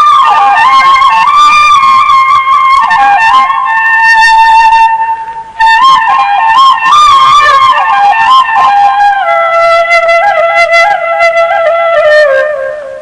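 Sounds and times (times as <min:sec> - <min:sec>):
flute melody ringtone: 0:00.0 - 0:12.8.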